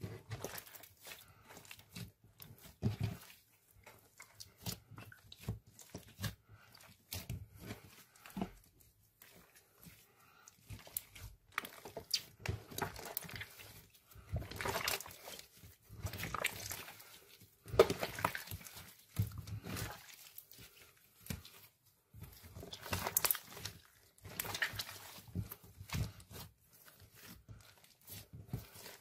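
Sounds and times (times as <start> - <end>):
slime squelching: 0.0 - 29.0.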